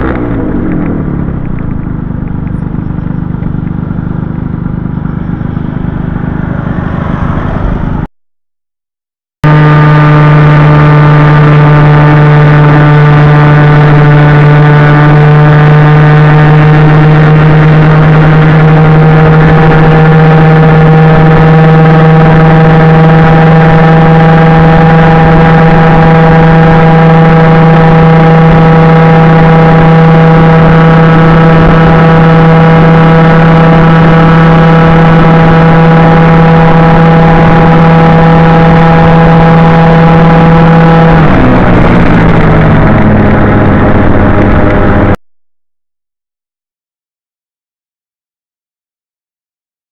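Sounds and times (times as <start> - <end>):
scooter engine running: 0.0 - 8.1, 9.4 - 45.2.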